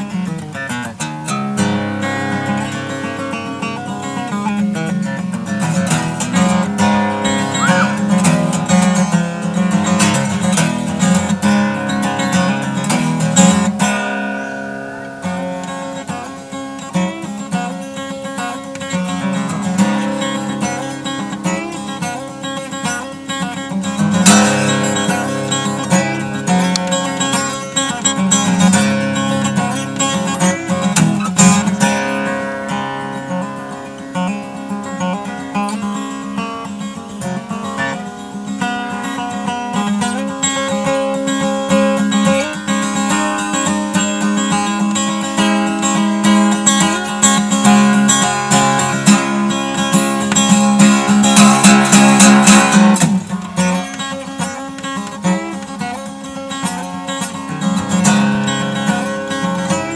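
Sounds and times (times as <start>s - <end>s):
acoustic guitar playing blues: 0.0s - 59.9s.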